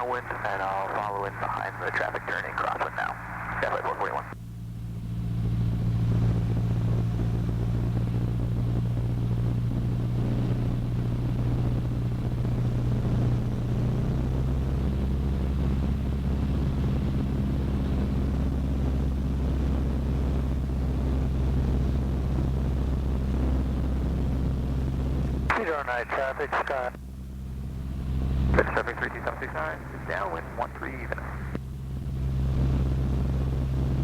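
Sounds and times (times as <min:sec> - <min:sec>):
light aircraft engine droning: 0:00.0 - 0:34.0.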